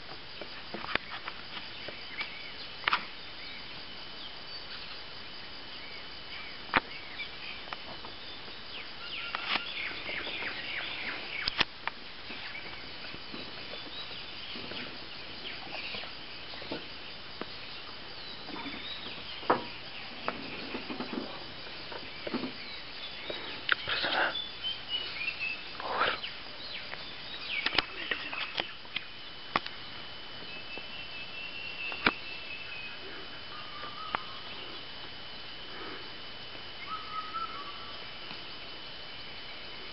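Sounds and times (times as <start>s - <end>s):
background hiss: 0.0s - 39.9s
high insect tone: 0.0s - 39.9s.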